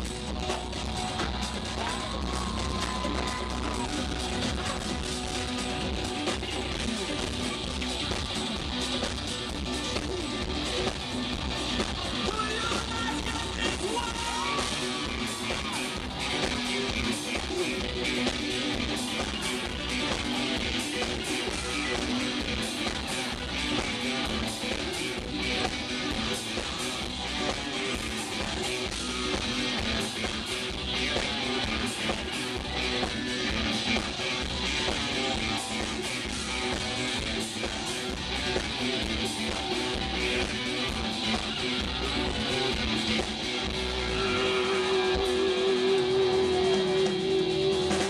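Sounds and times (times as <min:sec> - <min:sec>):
electric guitars strumming: 0:00.0 - 0:48.0
rock band playing: 0:00.0 - 0:48.0.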